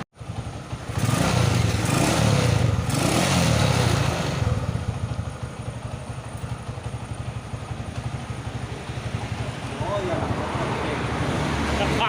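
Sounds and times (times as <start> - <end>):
motorcycle engine revving and idling: 0.2 - 12.0.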